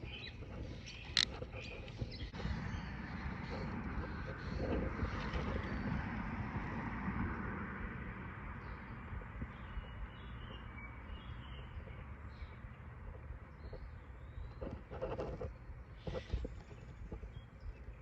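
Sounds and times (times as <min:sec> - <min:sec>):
steady outdoor rush: 0:00.0 - 0:18.0.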